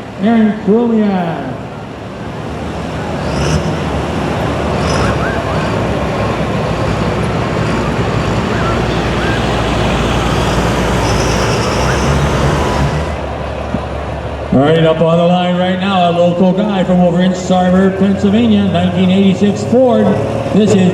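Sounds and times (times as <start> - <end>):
truck engine running: 0.0 - 20.9.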